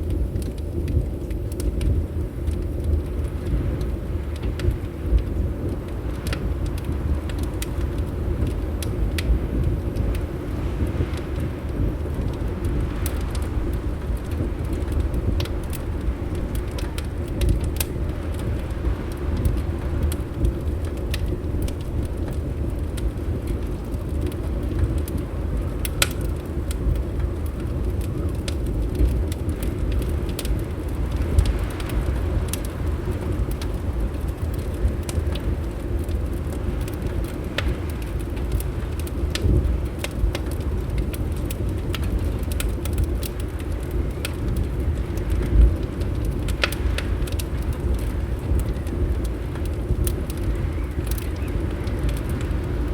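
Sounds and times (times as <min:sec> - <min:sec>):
low rumble of wind: 0:00.0 - 0:52.9
wood fire crackling: 0:00.0 - 0:52.9
sharp pops of fire: 0:00.2 - 0:52.9.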